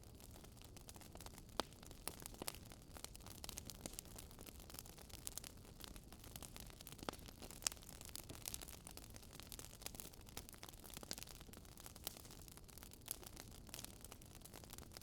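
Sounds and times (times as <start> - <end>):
faint wood fire crackling: 0.0 - 15.0.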